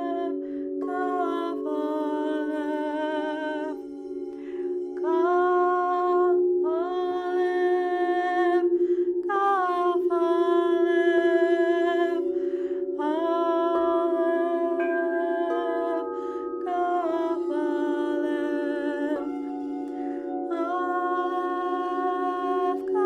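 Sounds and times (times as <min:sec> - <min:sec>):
sustained drone tones: 0:00.0 - 0:23.0
woman singing wordless tones: 0:00.0 - 0:23.0.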